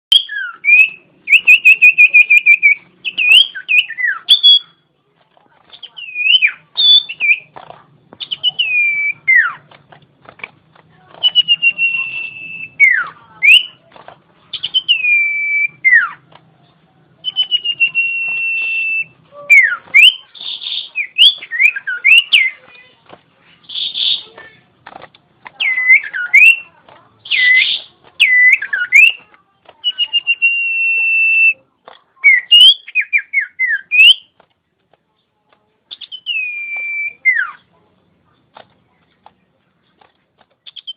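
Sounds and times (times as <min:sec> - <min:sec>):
bird singing whistled notes and trills: 0:00.1 - 0:04.9, 0:05.6 - 0:09.8, 0:11.2 - 0:31.6, 0:32.2 - 0:34.4, 0:35.9 - 0:37.7, 0:40.6 - 0:40.9
harsh rasping bird notes: 0:00.1 - 0:34.4, 0:35.9 - 0:37.7.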